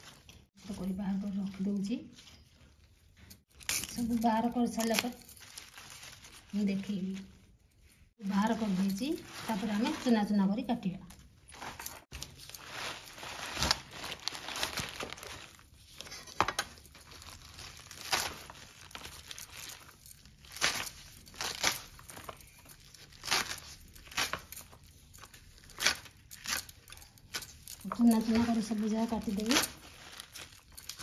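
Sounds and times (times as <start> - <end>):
leaves rustling and crunching: 3.4 - 7.4, 8.2 - 31.0.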